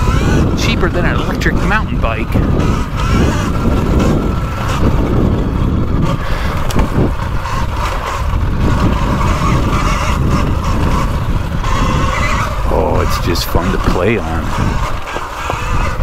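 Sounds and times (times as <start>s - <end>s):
electric motor whine: 0.0s - 16.0s
tyres rumbling over dirt: 0.0s - 16.0s.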